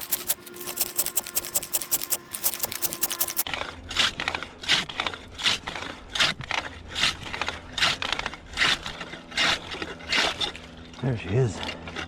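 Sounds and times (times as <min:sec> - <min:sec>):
hand saw rasping through ice: 0:00.0 - 0:10.8.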